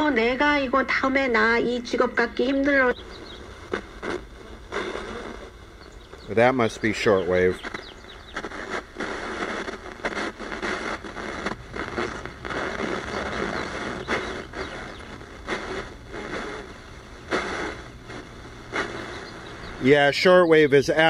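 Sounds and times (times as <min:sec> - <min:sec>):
faint radio signal snatches: 0:00.0 - 0:21.0
radio static hiss: 0:00.0 - 0:21.0.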